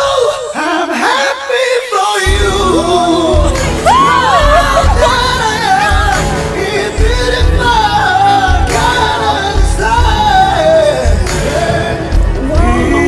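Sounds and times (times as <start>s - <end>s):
man singing: 0.0s - 13.0s
backing music with pulsing bass: 2.2s - 13.0s.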